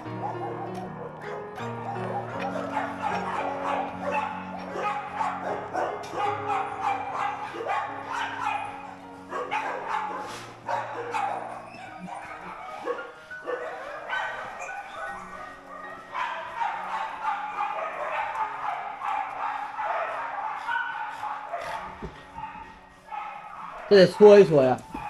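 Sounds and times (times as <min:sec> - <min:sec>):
background music: 0:00.0 - 0:25.0
dogs barking and yipping: 0:00.0 - 0:25.0.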